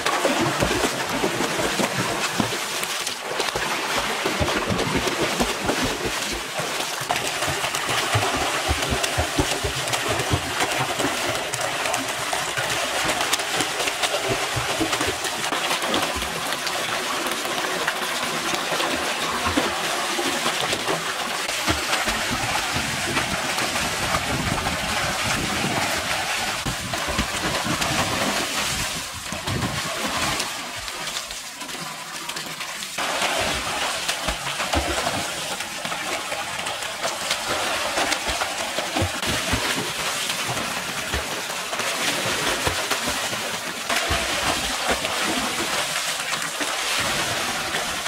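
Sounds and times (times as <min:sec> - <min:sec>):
pool water splashing: 0:00.0 - 0:48.0
stream of water falling into pool: 0:00.0 - 0:48.0.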